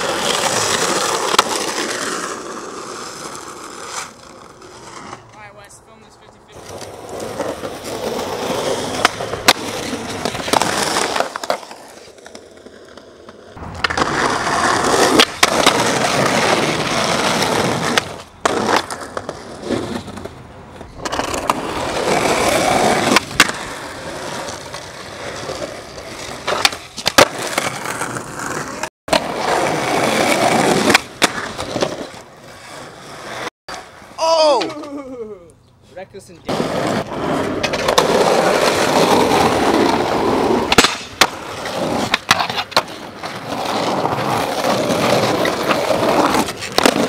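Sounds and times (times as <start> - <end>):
skateboard popping and landing: 0.0 - 5.4, 6.6 - 35.2, 36.5 - 47.0
skateboard wheels rolling on concrete: 0.0 - 47.0.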